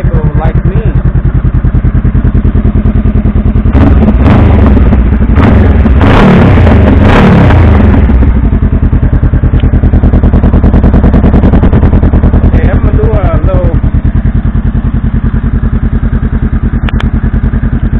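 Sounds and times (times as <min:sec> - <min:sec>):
motorcycle engine idling: 0:00.0 - 0:17.9
motorcycle throttle blips: 0:00.0 - 0:17.9.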